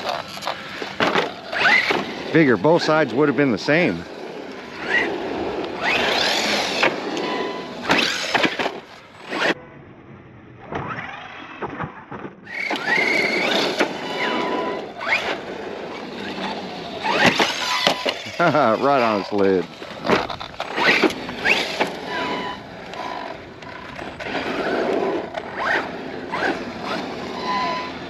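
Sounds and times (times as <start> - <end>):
tyres rushing on asphalt: 0.0 - 9.5, 12.4 - 28.0
electric motor whining: 0.0 - 9.6, 12.4 - 28.0.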